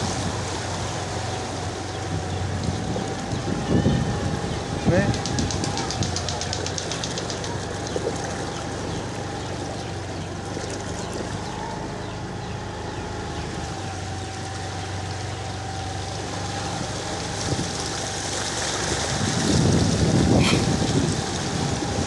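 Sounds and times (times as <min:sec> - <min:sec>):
motorcycle engine running: 0:00.0 - 0:22.0
water swishing: 0:00.0 - 0:22.0.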